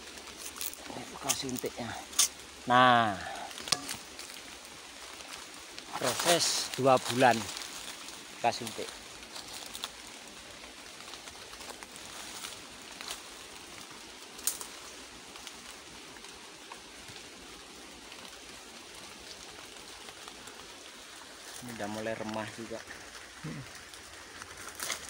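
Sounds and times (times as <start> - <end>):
faint forest background hiss: 0.0 - 25.0.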